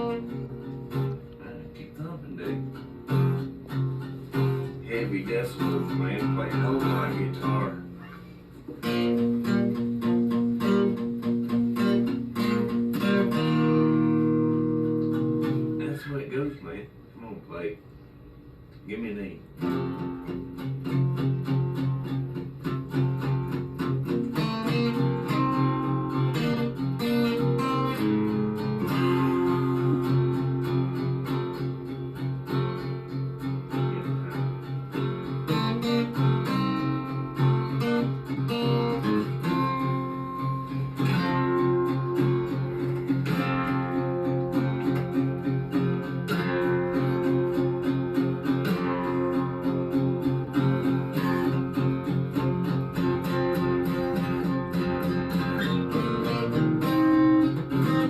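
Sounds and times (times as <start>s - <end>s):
acoustic guitars strummed: 0.0s - 58.0s.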